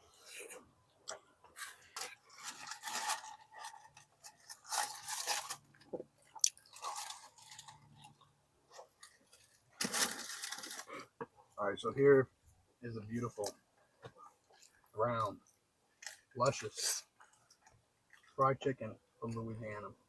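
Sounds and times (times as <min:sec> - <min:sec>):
crunching and chewing food: 0:00.0 - 0:11.3, 0:13.4 - 0:18.5.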